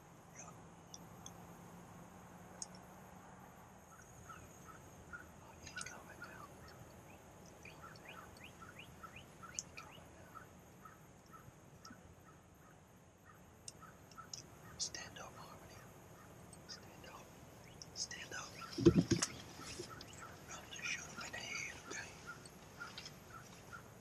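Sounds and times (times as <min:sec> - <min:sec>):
small bird chirping: 0:03.9 - 0:24.0.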